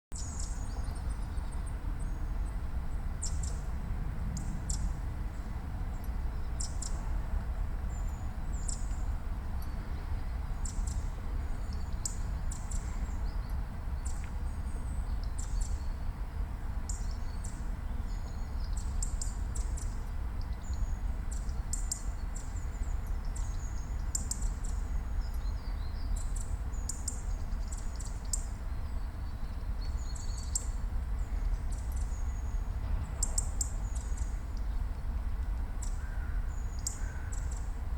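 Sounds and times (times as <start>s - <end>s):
low background rumble: 0.2s - 37.9s.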